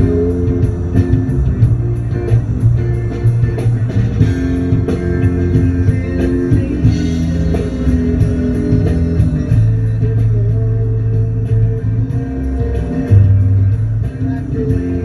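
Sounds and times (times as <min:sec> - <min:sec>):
bass guitar: 0:00.0 - 0:15.0
cymbal ticking: 0:00.0 - 0:15.0
drum kit: 0:00.0 - 0:15.0
electric guitar: 0:00.0 - 0:15.0.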